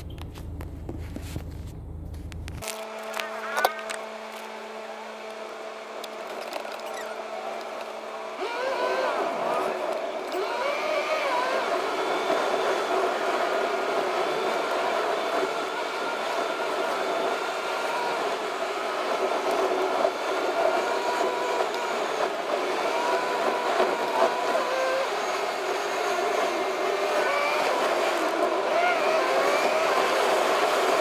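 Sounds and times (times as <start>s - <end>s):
car road noise inside cabin: 0.0s - 31.0s.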